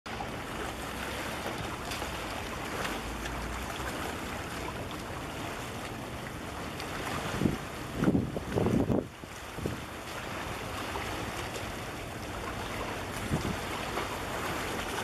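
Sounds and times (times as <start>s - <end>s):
water: 0.1s - 15.0s
wind: 0.1s - 15.0s.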